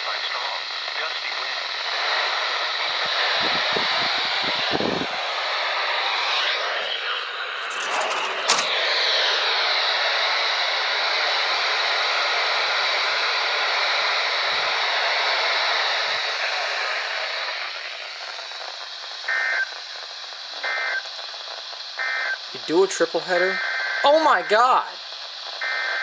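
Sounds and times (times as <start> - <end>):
radio static hiss: 0.0 - 8.9, 9.5 - 26.0.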